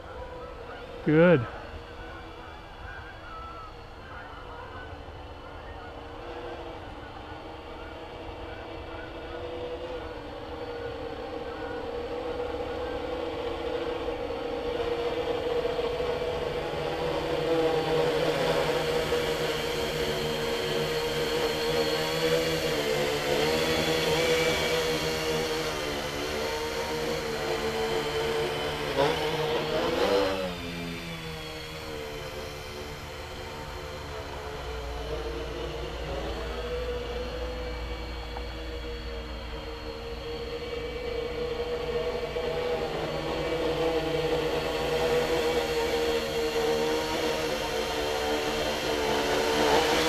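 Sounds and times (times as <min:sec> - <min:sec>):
quadcopter propellers buzzing: 0:00.0 - 0:50.0.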